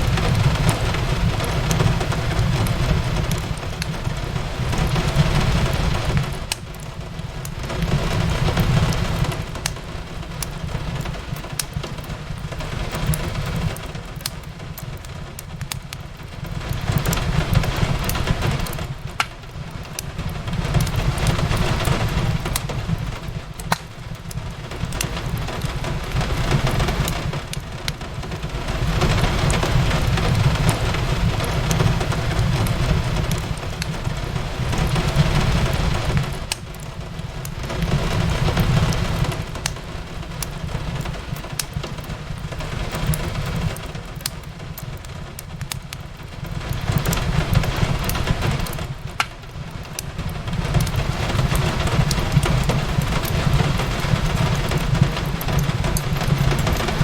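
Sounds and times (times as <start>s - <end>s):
rain on a window: 0.0s - 57.0s
wood fire crackling and popping: 0.0s - 57.0s.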